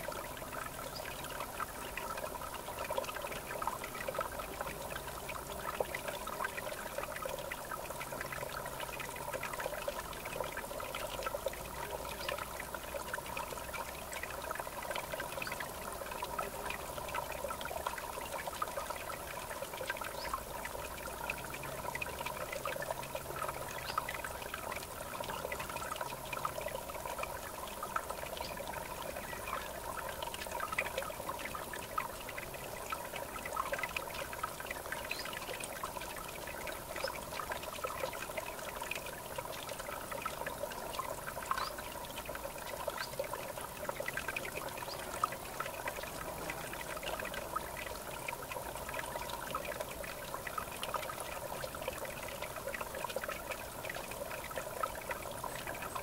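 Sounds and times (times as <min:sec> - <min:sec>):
river water trickling: 0:00.0 - 0:56.0.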